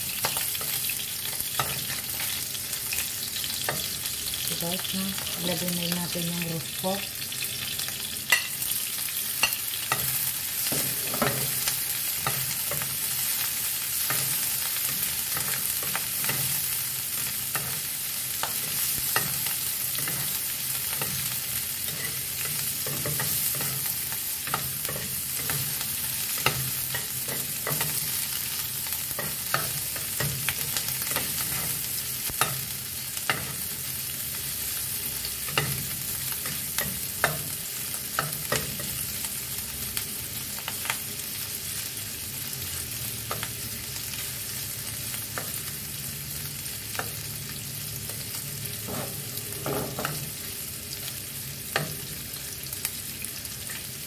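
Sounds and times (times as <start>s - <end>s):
pork sizzling in hot oil: 0.0s - 54.0s.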